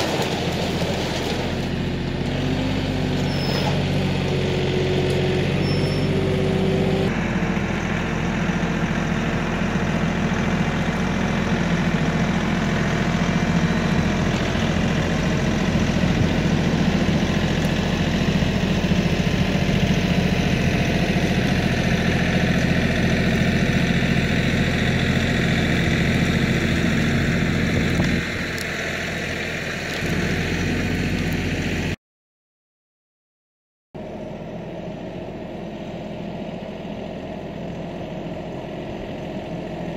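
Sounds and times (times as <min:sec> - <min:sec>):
tractor diesel engine running: 0:00.0 - 0:32.0, 0:34.0 - 0:39.9.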